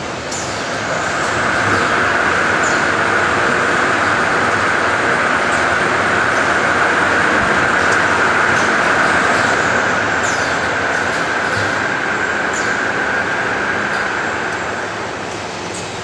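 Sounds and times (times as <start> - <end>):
machinery running: 0.0 - 16.0.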